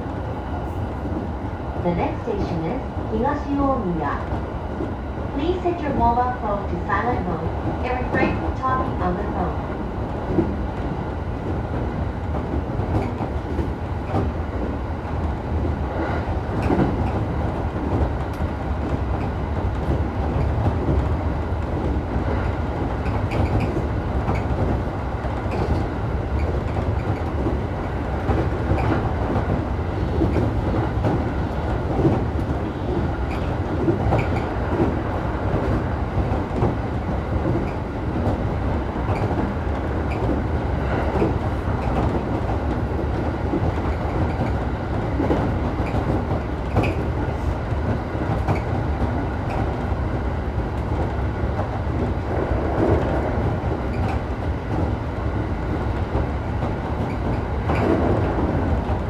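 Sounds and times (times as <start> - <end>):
rail clicks: 0.0 - 59.0
train wheels rumbling on track: 0.0 - 59.0.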